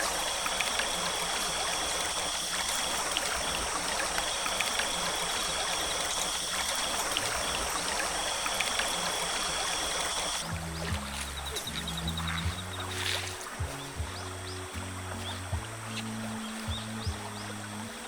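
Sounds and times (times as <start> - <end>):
intermittent high tone: 0.0 - 18.0
stream flowing: 0.0 - 18.0.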